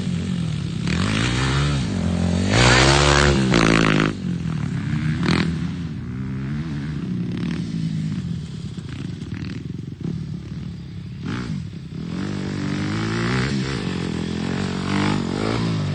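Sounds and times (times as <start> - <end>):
dirt bike engines revving: 0.0 - 15.9.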